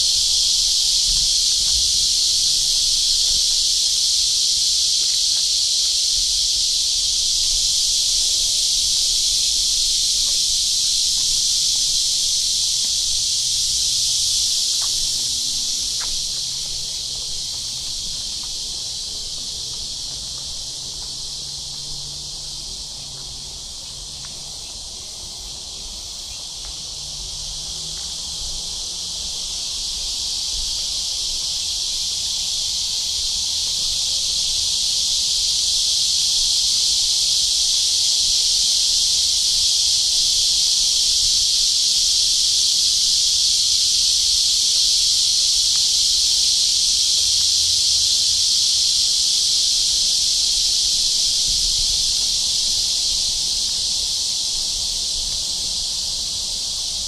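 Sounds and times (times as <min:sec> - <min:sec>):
cicadas buzzing in chorus: 0:00.0 - 0:57.0.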